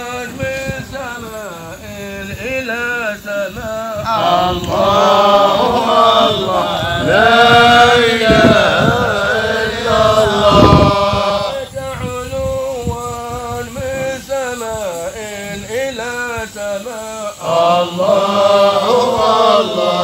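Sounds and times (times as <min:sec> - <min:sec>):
men chanting together: 0:00.0 - 0:20.0
single voice singing: 0:00.0 - 0:20.0.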